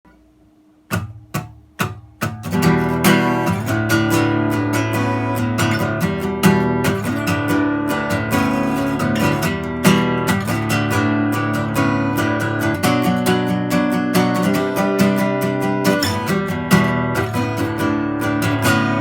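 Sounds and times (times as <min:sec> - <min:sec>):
acoustic guitar strumming: 0:00.1 - 0:19.0.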